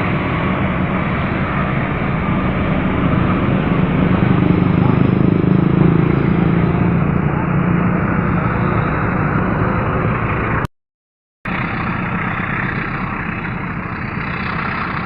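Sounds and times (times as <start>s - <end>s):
diesel train engine running: 0.0s - 10.7s, 11.5s - 15.0s.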